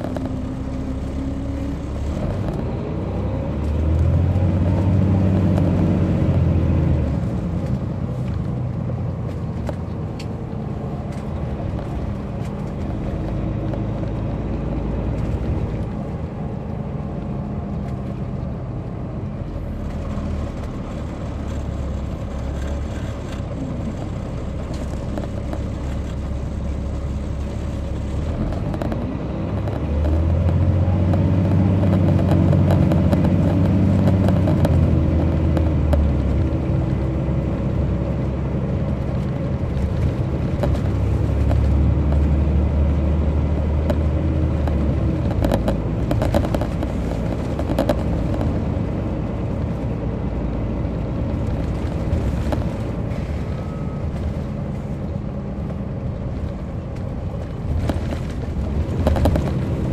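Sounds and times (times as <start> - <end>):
bus diesel engine drone: 0.0 - 59.9
rattles inside bus: 0.0 - 59.9
road noise rumble: 0.0 - 59.9.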